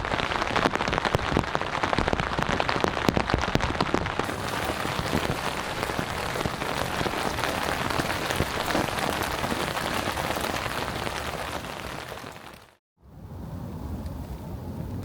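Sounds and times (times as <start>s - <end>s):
steady rain: 0.0s - 12.8s.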